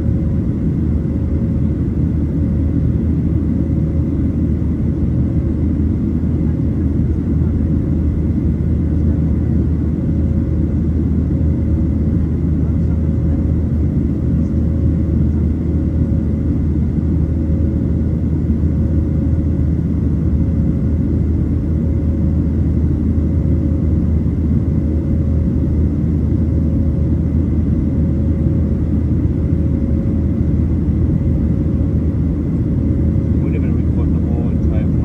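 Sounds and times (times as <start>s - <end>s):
airplane engines droning: 0.0s - 35.0s
faint steady whine: 0.0s - 35.0s.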